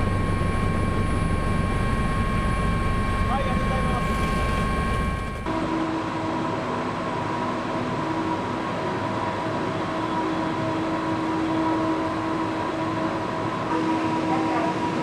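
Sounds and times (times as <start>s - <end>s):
construction machinery drone: 0.0s - 15.0s
machinery whining tones: 0.0s - 15.0s.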